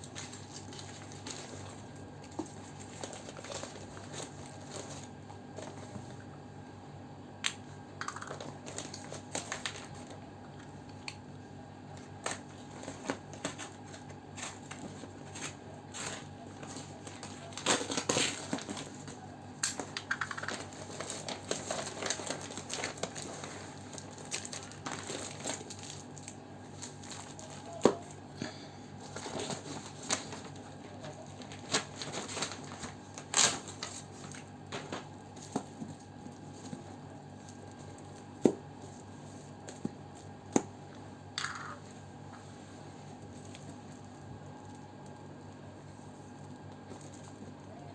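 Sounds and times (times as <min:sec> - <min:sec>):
plastic and paper crinkling: 0:00.0 - 0:06.4, 0:08.0 - 0:10.8, 0:11.9 - 0:28.3, 0:28.9 - 0:41.1, 0:41.7 - 0:47.9
faint steady hum: 0:00.0 - 0:47.9.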